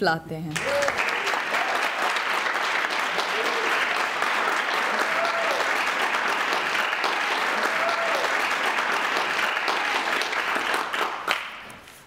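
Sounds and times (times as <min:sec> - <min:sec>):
audience applause: 0:00.6 - 0:11.7.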